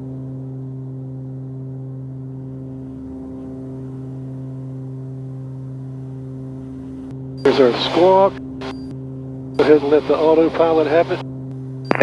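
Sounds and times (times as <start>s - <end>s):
airplane engines droning in cabin: 0.0s - 11.3s.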